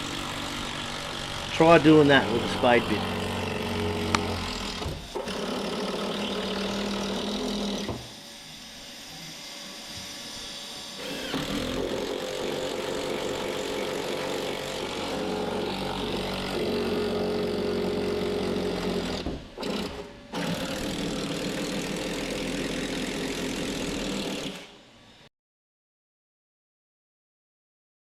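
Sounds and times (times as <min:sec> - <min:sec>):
power drill boring into wood: 0:00.0 - 0:24.8.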